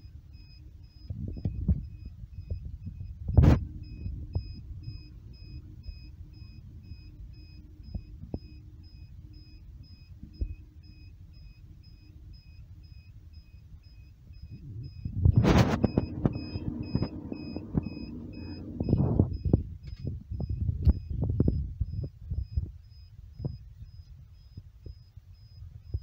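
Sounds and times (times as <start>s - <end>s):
faint high pulsing tone: 0.0s - 26.0s
steady low hum: 0.0s - 26.0s.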